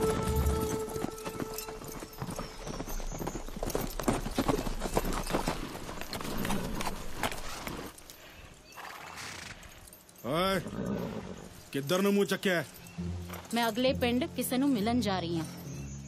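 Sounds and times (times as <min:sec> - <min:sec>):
horse hoofbeats on dirt: 0:00.0 - 0:08.1, 0:08.8 - 0:15.9.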